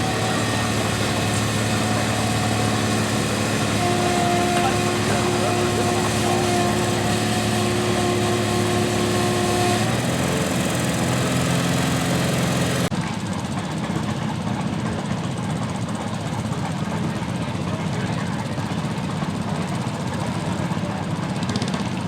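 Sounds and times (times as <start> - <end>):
garden tractor engine running: 0.0 - 22.0.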